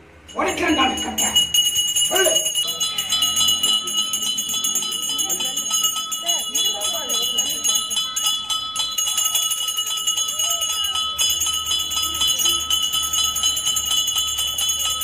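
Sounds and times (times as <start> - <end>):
hand bell ringing rapidly: 0.3 - 15.0.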